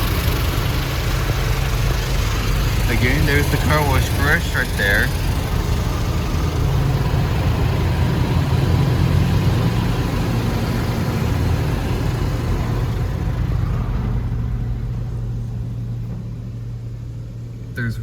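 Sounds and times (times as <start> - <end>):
car wash equipment rushing: 0.0 - 18.0
low hum: 0.0 - 18.0.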